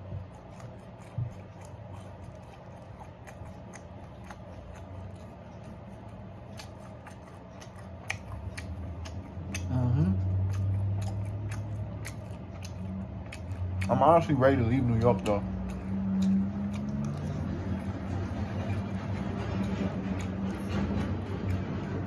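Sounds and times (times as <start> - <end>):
man chewing: 0.0 - 22.0
steady low hum: 0.0 - 22.0.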